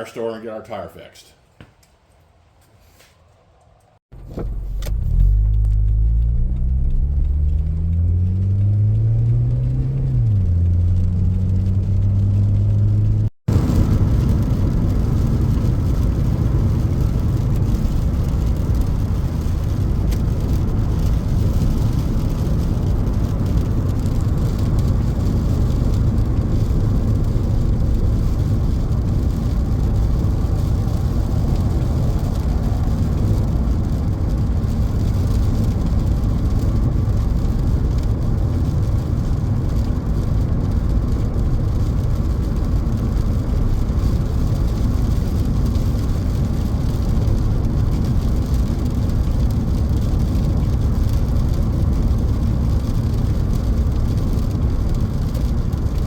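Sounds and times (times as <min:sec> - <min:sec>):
car engine and road rumble: 0:02.3 - 0:56.0
car engine pulling away: 0:04.1 - 0:56.0.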